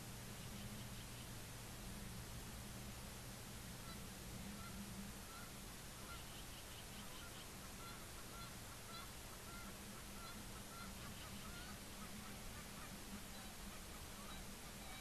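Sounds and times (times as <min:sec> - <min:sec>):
distant geese honking: 0:00.0 - 0:01.5, 0:03.6 - 0:15.0
low hum and hiss: 0:00.0 - 0:15.0.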